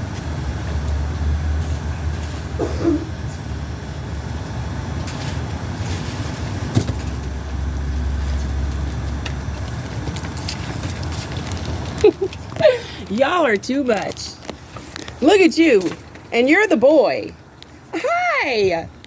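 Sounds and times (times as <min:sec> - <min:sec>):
car engine rumbling: 0:00.0 - 0:17.9.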